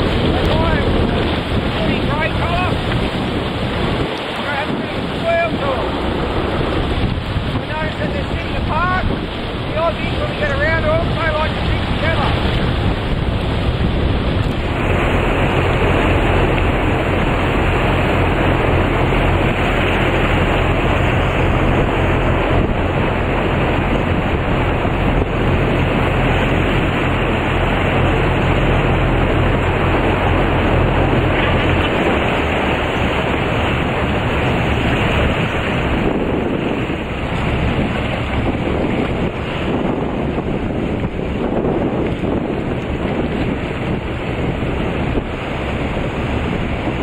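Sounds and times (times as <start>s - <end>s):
boat engine humming: 0.0s - 47.0s
rushing water: 0.0s - 47.0s
wind on microphone: 0.0s - 47.0s.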